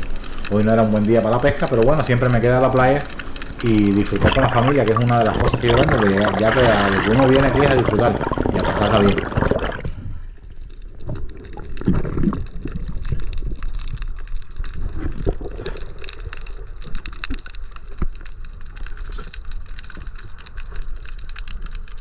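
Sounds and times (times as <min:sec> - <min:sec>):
muffled underwater sounds: 0:00.0 - 0:22.0.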